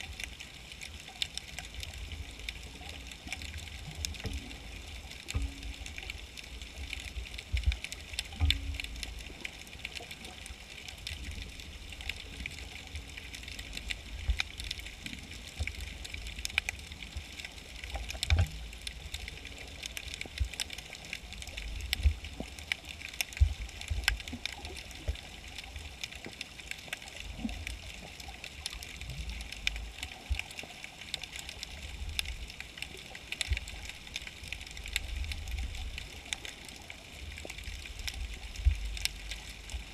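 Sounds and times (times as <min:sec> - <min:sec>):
rumble of moving water: 0:00.0 - 0:39.9
underwater clicks and crackles: 0:00.0 - 0:39.9.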